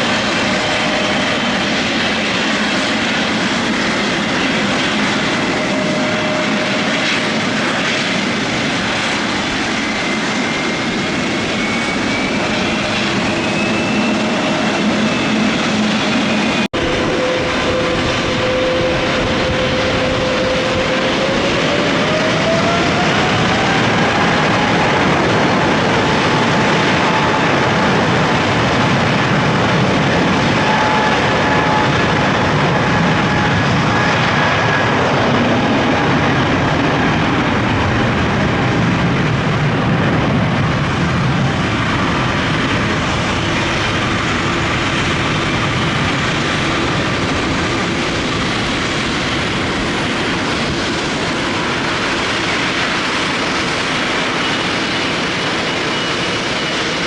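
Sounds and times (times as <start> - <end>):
jet engine roar with high whine: 0.0 - 57.0.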